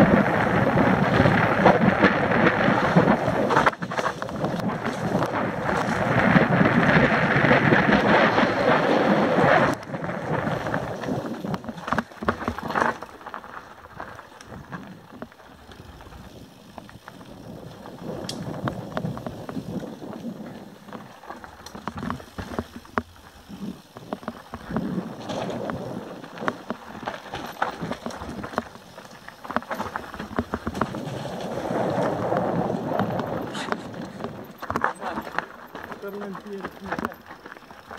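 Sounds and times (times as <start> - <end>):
wind rushing over microphone: 0.0 - 13.0, 16.0 - 35.4
bike clicks and knocks: 0.0 - 37.9
bike tyre and frame rattle: 0.0 - 37.9.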